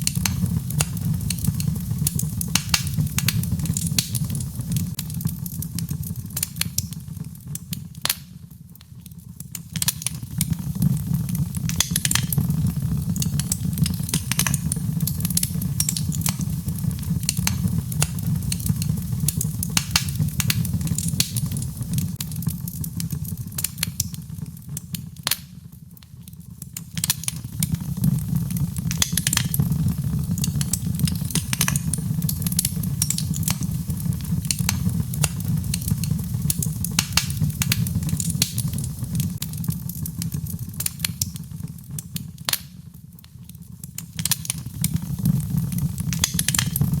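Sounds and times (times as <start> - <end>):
fire burning in a fireplace: 0.0 - 47.0
fire crackling and popping: 0.0 - 47.0.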